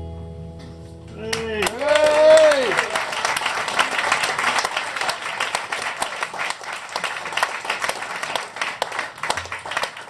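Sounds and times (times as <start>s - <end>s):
audience applauding: 1.1s - 10.0s.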